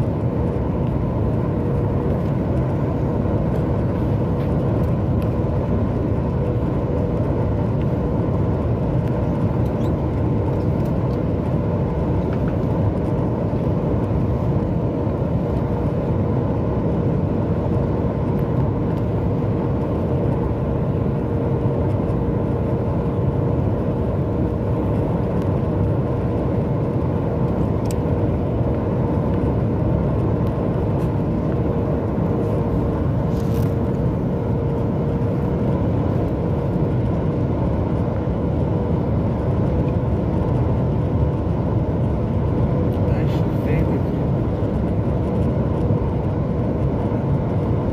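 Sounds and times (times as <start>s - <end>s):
airplane cabin engine rush: 0.0s - 47.9s
steady hum: 0.0s - 47.9s.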